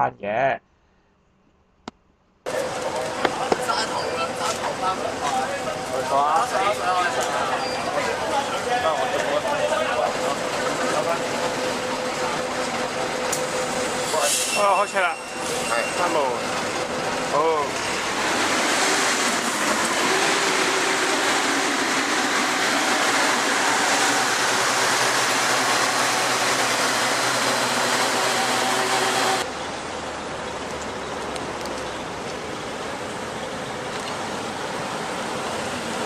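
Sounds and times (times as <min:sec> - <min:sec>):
street traffic noise: 0:01.8 - 0:36.0
bus engine pulling away: 0:02.5 - 0:36.0.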